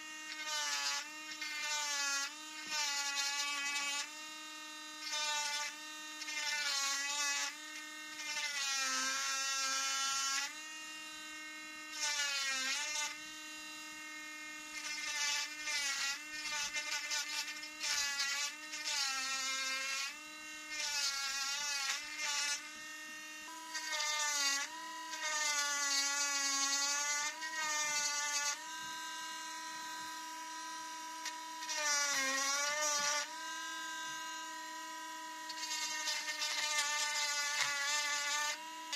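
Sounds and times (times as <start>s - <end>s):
rotary engraving pen whining: 0.0s - 38.9s.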